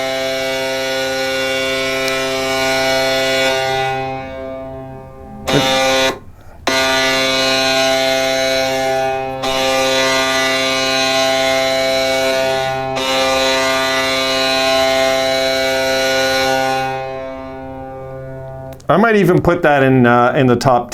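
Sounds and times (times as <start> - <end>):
arena goal horn blast: 0.0 - 18.7.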